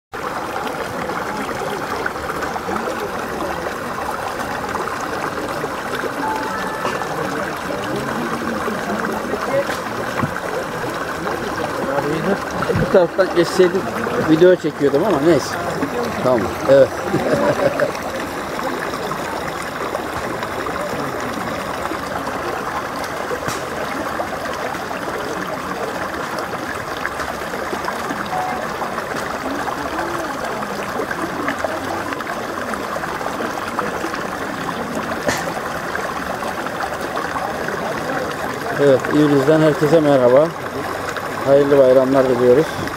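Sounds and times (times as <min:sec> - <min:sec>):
stream splashing over stones: 0:00.2 - 0:42.9.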